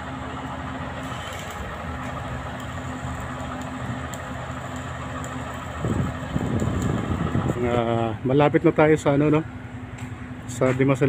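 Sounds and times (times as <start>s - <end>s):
engine idling: 0.0s - 11.0s
street noise: 0.0s - 11.0s.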